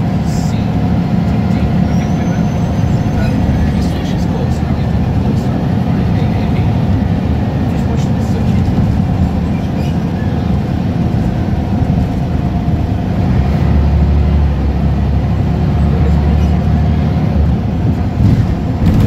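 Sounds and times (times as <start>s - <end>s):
bus diesel engine drone: 0.0s - 19.0s
road and tyre noise: 0.0s - 19.0s.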